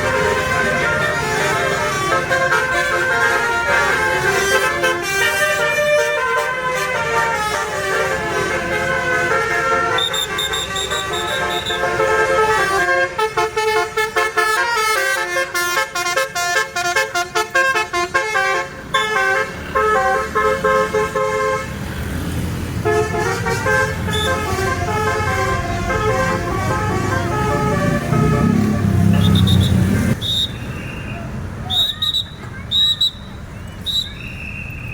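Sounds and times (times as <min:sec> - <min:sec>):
musical air horn playing a tune: 0:00.0 - 0:21.7, 0:22.8 - 0:30.5
bus engine rumbling: 0:00.0 - 0:34.9.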